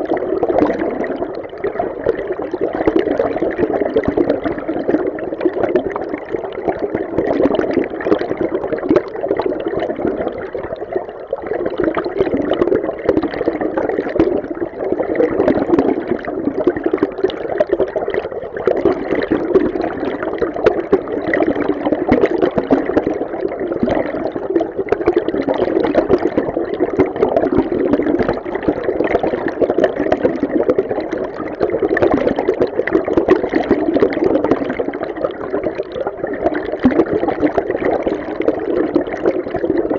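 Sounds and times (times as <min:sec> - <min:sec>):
muffled underwater water rush: 0:00.0 - 0:39.9.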